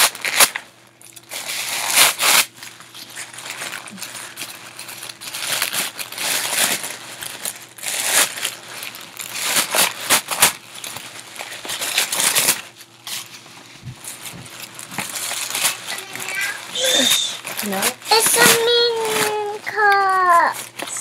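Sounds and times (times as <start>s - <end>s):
tissue paper rustling: 1.3s - 21.0s.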